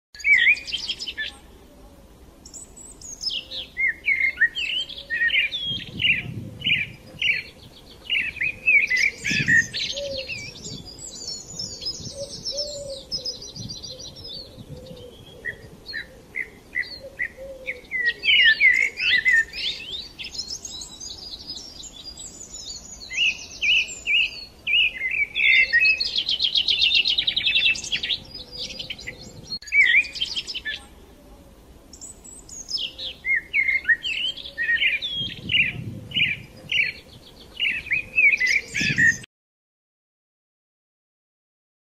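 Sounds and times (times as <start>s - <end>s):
birds singing chirps and trills: 0.2s - 39.3s.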